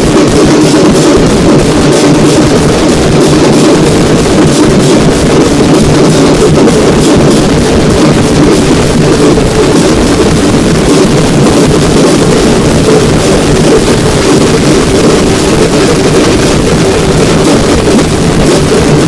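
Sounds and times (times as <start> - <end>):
barrel drums beaten loudly: 0.0 - 19.0.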